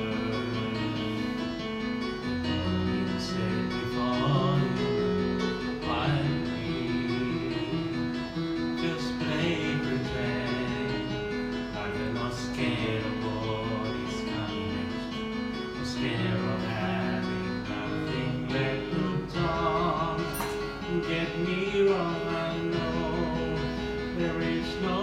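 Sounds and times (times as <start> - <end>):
person singing a slow ballad: 0.0 - 1.5, 2.7 - 25.0
instrumental accompaniment: 0.0 - 25.0.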